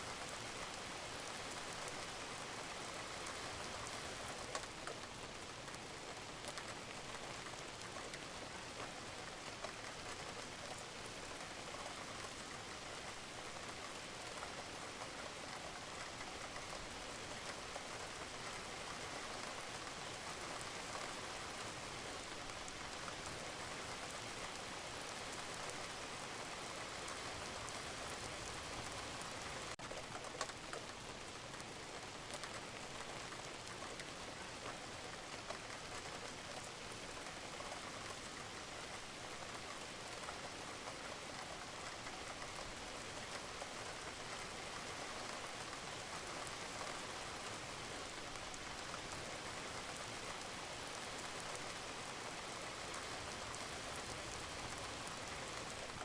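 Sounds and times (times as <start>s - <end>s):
rain falling on a roof: 0.0s - 56.0s
raindrops ticking: 2.7s - 56.0s.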